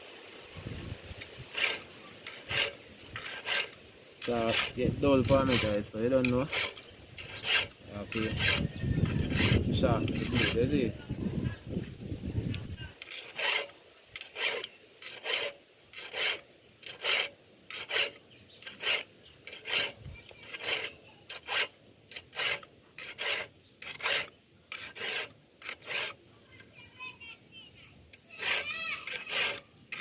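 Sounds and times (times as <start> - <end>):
hand file scraping metal blade: 1.2 - 11.0, 12.5 - 26.7, 28.1 - 30.0.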